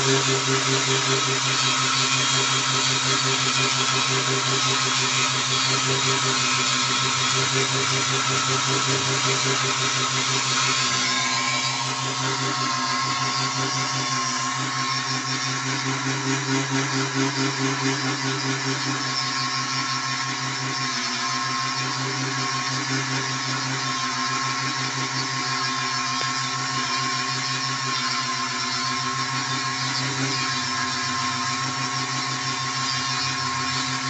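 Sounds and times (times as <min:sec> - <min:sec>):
chisel scraping spinning wood: 0:00.0 - 0:34.0
lathe motor whining: 0:00.0 - 0:34.0.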